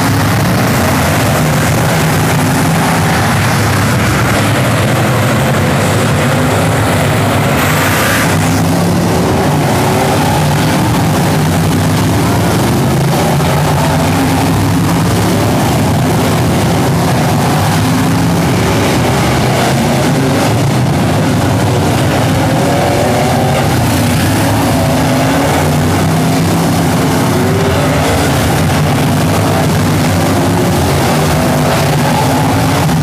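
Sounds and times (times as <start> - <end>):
race car engines: 0.0 - 33.0.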